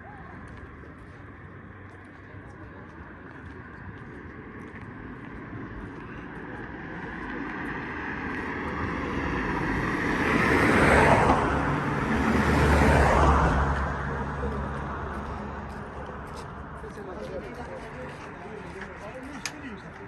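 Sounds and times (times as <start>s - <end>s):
motor vehicle approaching: 0.0s - 20.0s.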